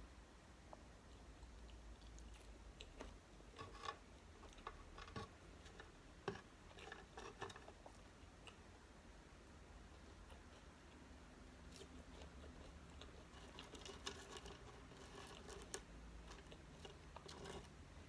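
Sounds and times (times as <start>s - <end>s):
person chewing: 0.7s - 8.8s, 9.8s - 17.8s.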